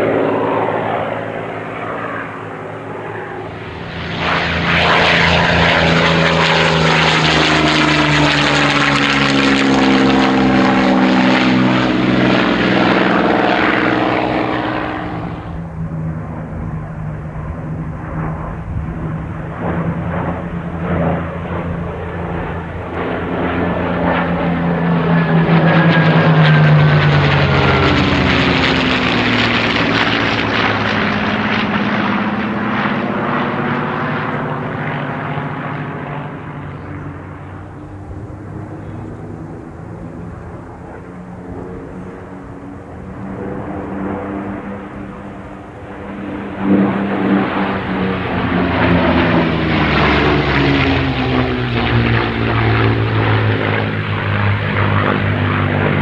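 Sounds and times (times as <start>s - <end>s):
propeller aircraft flying past: 0.0s - 56.0s.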